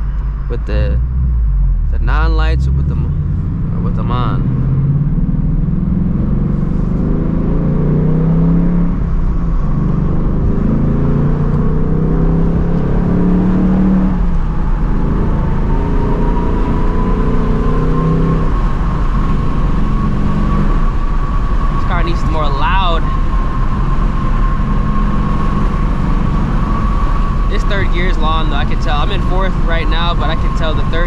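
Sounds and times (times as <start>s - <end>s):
car engine accelerating through gears: 0.0s - 31.0s.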